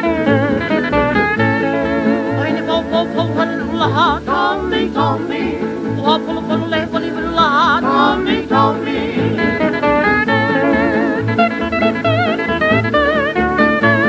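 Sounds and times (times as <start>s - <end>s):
string-band music on old record: 0.0s - 14.0s.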